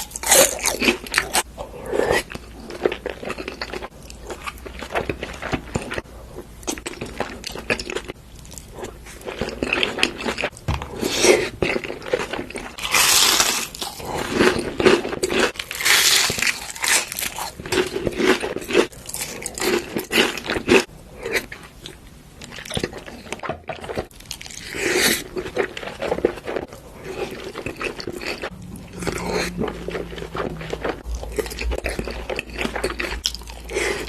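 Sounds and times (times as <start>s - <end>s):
crunching and chewing food: 0.0s - 34.0s.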